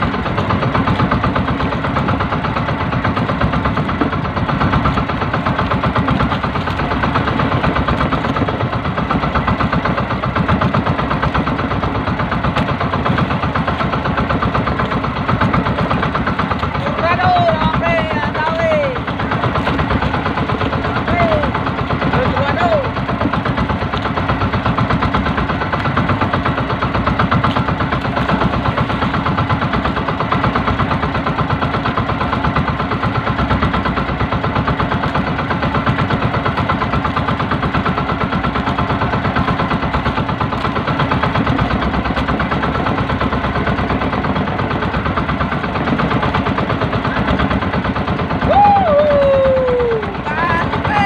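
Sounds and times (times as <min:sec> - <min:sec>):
small boat engine running: 0:00.0 - 0:51.0.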